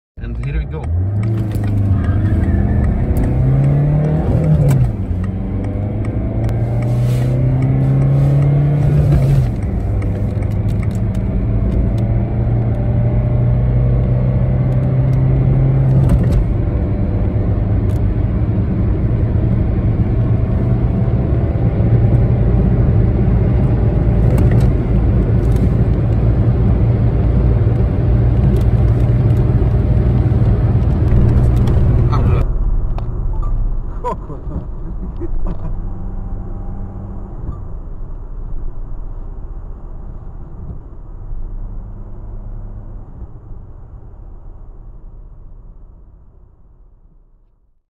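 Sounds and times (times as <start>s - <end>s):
car engine accelerating: 0.2s - 47.2s.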